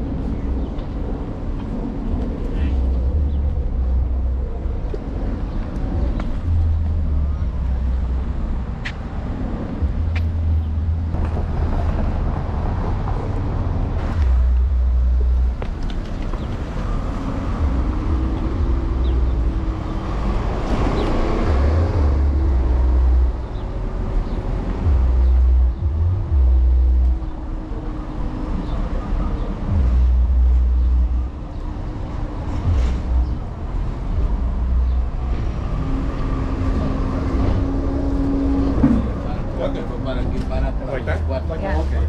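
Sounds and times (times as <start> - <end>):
city street traffic: 0.0 - 42.0
low rumble on microphone: 0.0 - 42.0.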